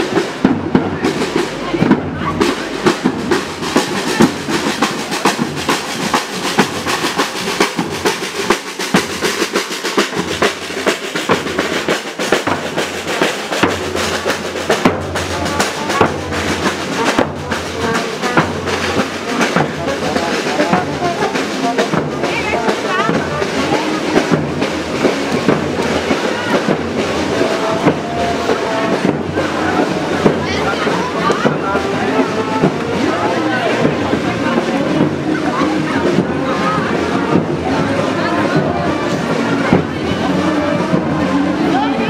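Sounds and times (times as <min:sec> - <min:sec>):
bass drums beating: 0:00.0 - 0:42.0
marching band drums: 0:00.0 - 0:42.0.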